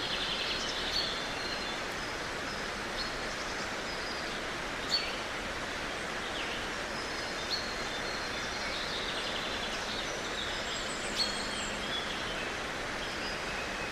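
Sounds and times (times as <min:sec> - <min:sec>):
outdoor background hiss: 0:00.0 - 0:13.9.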